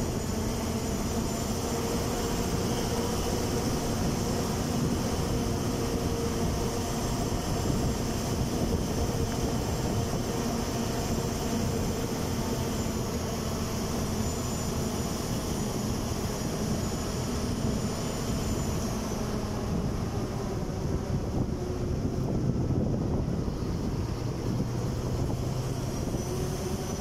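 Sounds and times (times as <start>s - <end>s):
thin high whine: 0.0s - 27.0s
vehicle engine and road noise: 0.0s - 27.0s.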